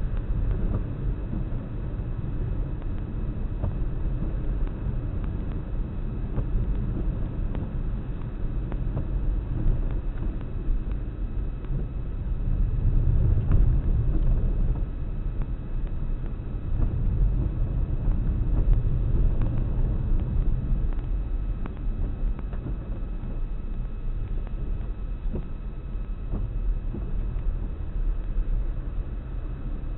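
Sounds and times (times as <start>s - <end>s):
car engine and tyre rumble: 0.0s - 29.9s.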